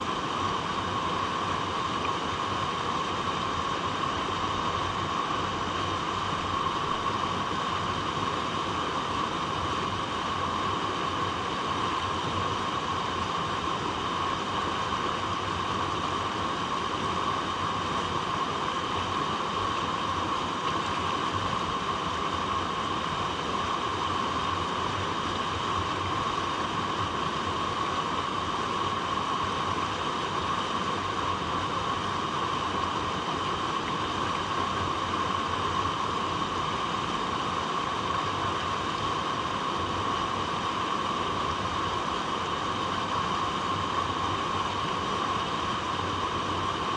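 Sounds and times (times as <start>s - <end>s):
water flowing over rocks: 0.0s - 46.9s.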